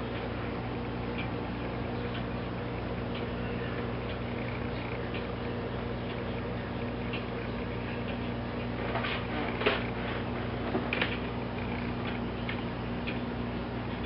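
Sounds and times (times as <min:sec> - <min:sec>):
faint clock ticking: 0:00.0 - 0:14.0
low electrical hum: 0:00.0 - 0:14.0.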